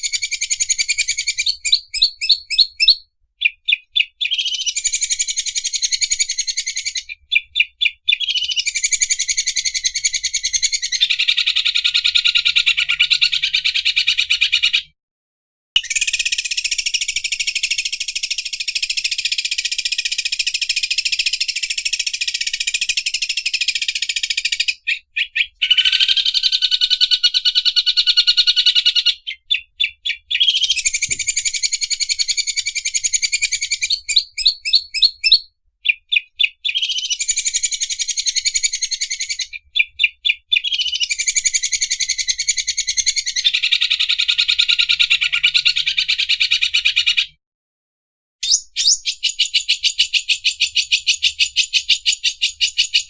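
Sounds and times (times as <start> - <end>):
bird singing rattling trills: 0.0 - 14.4, 15.8 - 47.3.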